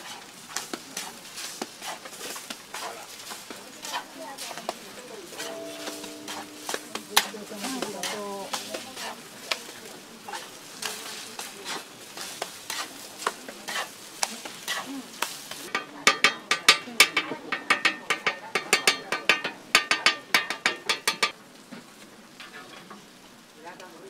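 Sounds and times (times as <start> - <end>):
food sizzling on a griddle: 0.0 - 24.0.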